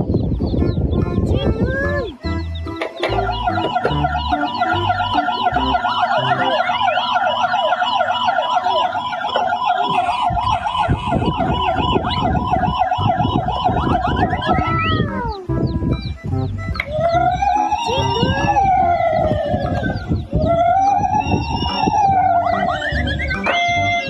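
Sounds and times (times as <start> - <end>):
yelp siren: 3.0 - 15.7, 16.7 - 24.0.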